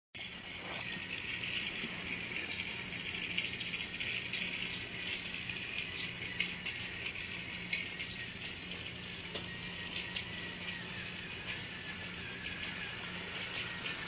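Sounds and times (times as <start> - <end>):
gears rattling: 0.2 - 14.0
toy train motor whirring: 0.2 - 14.0.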